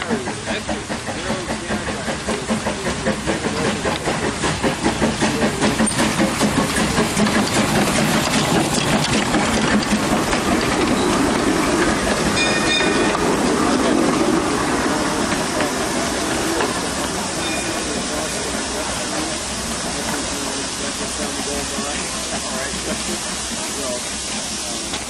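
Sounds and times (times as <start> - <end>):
hissing steam: 0.0 - 25.0
steam locomotive exhaust beats: 0.0 - 25.0.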